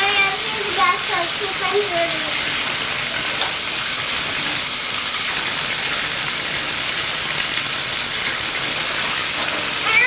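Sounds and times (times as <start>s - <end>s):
shower spray into bathtub: 0.0s - 10.0s.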